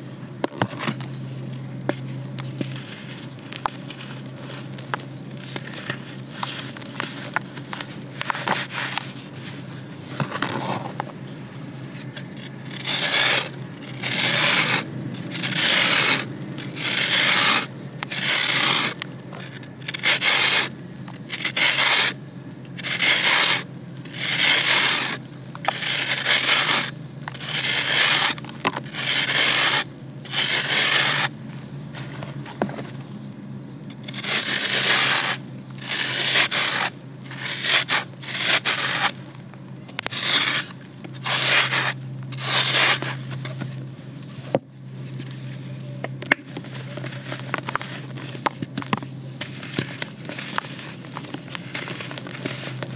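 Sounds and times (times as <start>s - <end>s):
knife scraping dry dirt: 0.5s - 32.5s, 33.9s - 39.3s, 39.9s - 52.9s.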